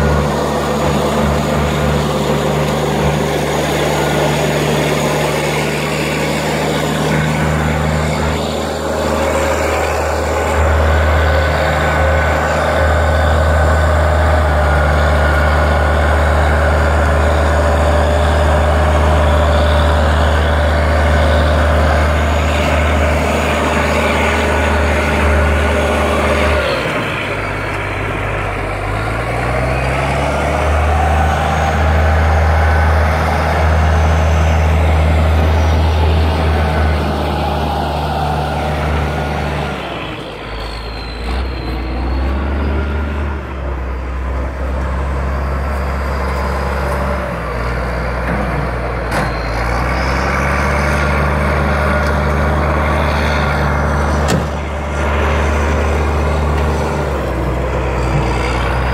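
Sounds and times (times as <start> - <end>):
bulldozer diesel engine under load: 0.0 - 58.9.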